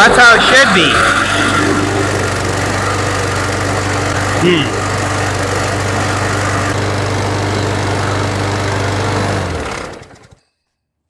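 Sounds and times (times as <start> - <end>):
lawnmower engine running: 0.0 - 10.4.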